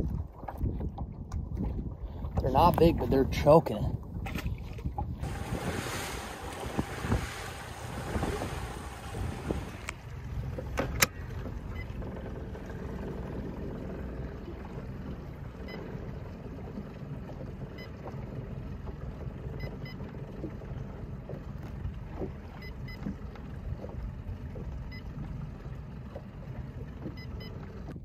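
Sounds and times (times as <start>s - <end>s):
low rumble of wind and water: 0.0s - 28.0s.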